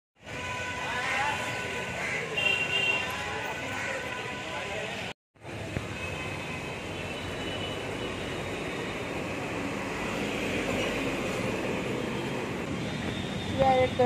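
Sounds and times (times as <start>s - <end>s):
city street traffic: 0.2s - 14.0s.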